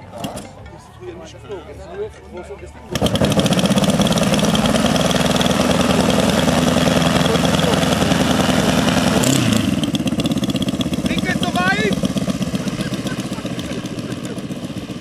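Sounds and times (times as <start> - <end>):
model plane engine running: 2.9 - 15.0.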